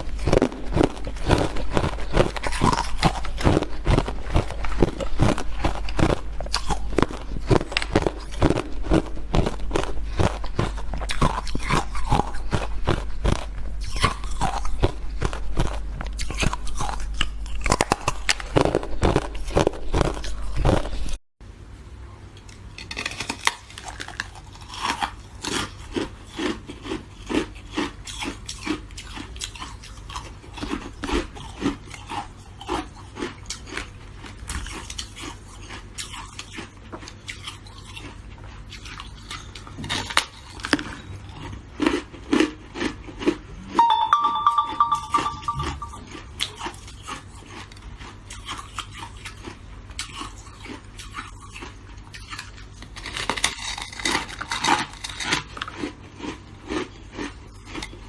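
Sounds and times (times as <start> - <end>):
chewing shaved ice: 0.0 - 21.2, 22.4 - 44.9, 46.1 - 58.0.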